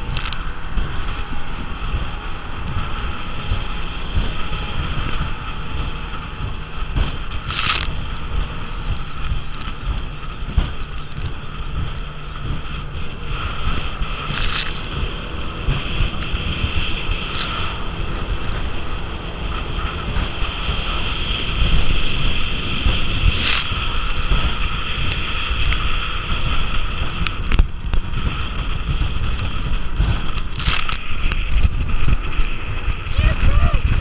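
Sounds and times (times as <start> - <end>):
outboard motor running: 0.0 - 34.0
wind buffeting microphone: 0.0 - 34.0.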